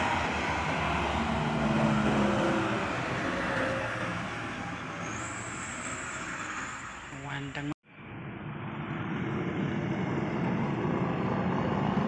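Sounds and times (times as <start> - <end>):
heavy truck engine passing: 0.0 - 7.1, 7.9 - 12.0.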